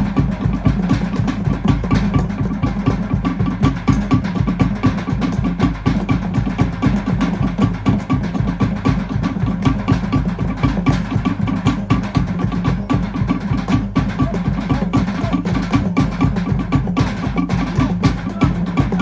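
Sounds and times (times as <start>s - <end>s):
fast log drumming: 0.0s - 19.0s.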